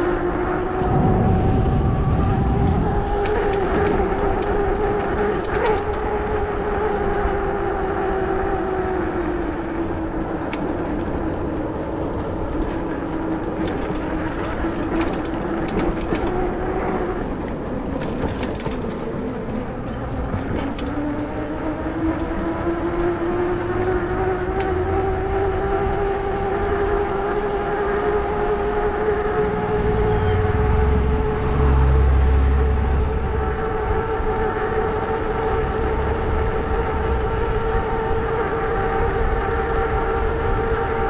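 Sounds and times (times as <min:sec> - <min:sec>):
motor whine: 0:00.0 - 0:41.0
road rumble: 0:00.0 - 0:41.0
wind: 0:00.0 - 0:41.0.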